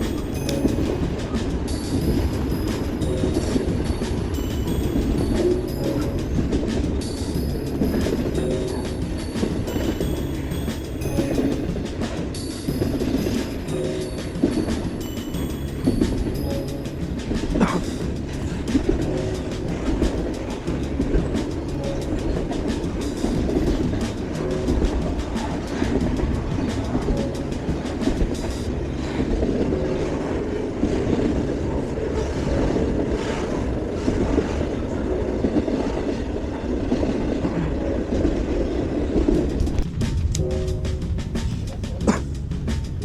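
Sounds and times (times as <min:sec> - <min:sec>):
clacks over rail joints: 0:00.0 - 0:43.0
train wheels rolling on rails: 0:00.0 - 0:43.0.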